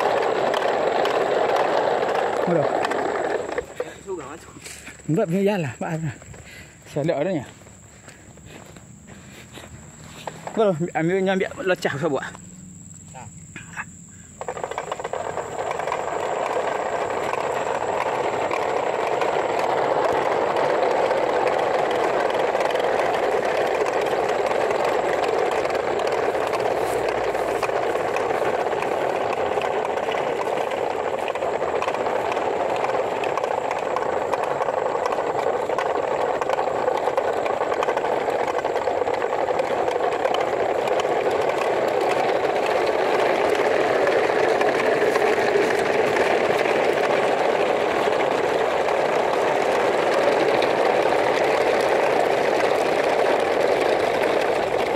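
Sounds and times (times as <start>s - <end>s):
toy truck wheels rolling on gravel: 0.0s - 54.9s.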